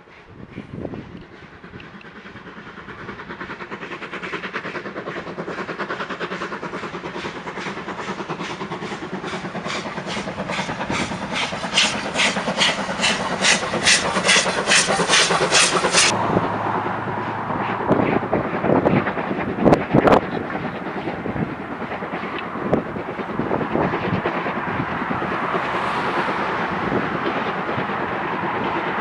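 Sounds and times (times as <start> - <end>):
steam locomotive chuffing: 0.0 - 29.0.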